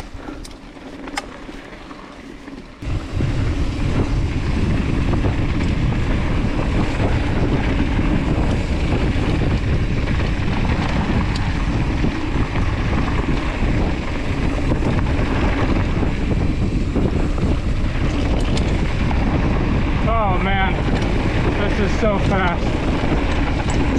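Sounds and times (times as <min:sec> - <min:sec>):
bike tyres rolling on dirt: 0:00.0 - 0:23.9
wind buffeting microphone: 0:00.0 - 0:23.9.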